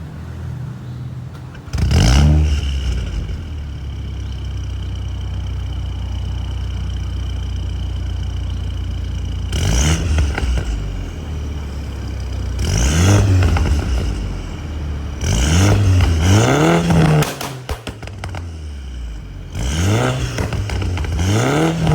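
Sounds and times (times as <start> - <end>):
car engine idling and revving: 0.0 - 21.9
exhaust pops: 1.3 - 21.9.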